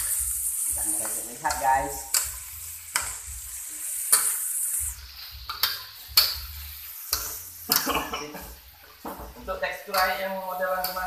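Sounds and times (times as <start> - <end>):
food sizzling in a wok: 0.0 - 11.0
spatula clacking on pan: 0.0 - 11.0
spatula scraping a wok: 0.0 - 11.0.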